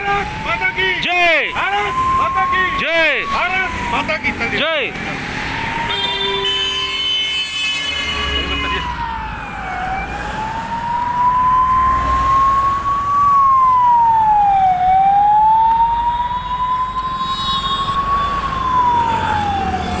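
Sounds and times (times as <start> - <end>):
ambulance siren wailing: 0.0 - 20.0
road traffic rumble: 0.0 - 20.0.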